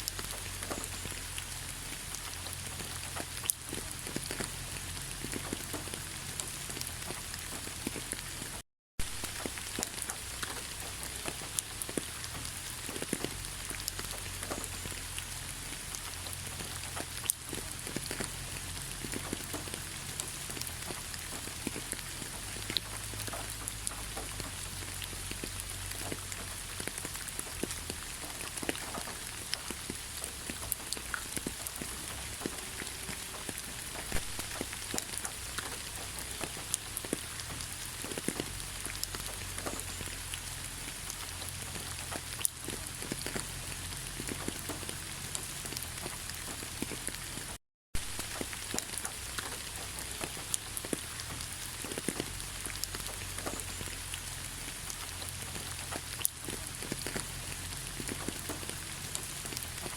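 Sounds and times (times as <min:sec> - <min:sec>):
steady rain in forest: 0:00.0 - 0:59.9.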